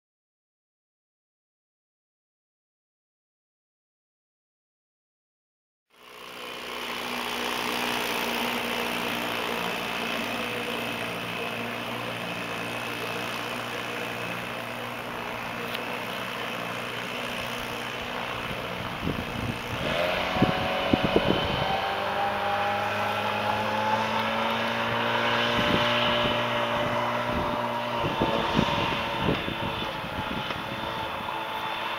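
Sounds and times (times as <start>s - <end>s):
outboard motor buzzing: 5.9s - 31.9s.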